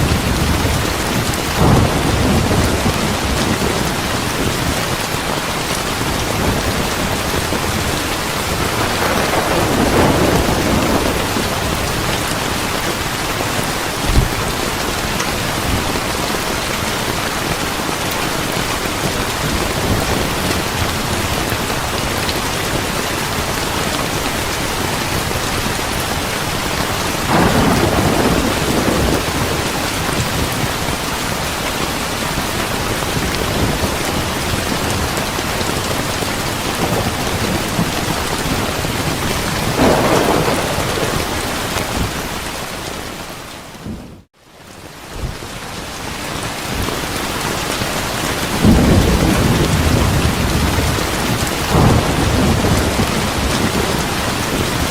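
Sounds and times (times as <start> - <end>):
thunder rumbling: 0.0 - 44.3, 47.7 - 54.9
heavy rain: 0.0 - 54.9.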